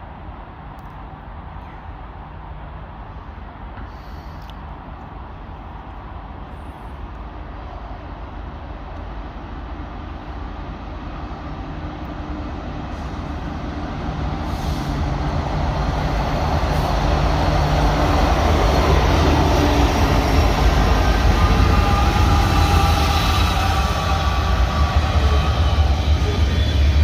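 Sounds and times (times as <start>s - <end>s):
diesel locomotive engine rumble: 0.0s - 27.0s
rail and wheel noise: 0.0s - 27.0s.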